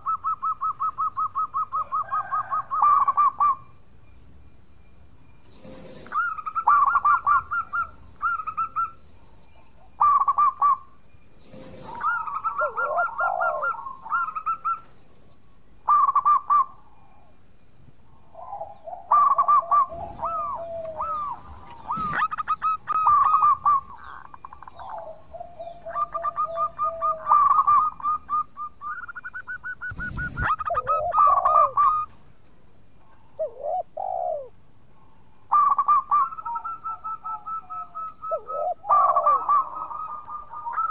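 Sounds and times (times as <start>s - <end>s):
dove cooing: 0.0s - 3.7s, 5.5s - 9.0s, 9.8s - 14.9s, 15.9s - 17.3s, 18.2s - 32.2s, 33.0s - 34.6s, 35.5s - 40.9s.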